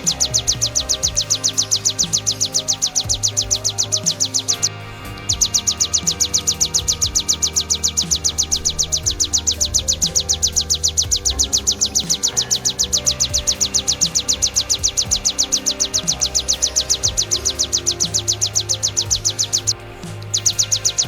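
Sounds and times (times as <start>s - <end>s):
bird song of high sharp notes: 0.0s - 21.0s
soft background music: 0.0s - 21.0s.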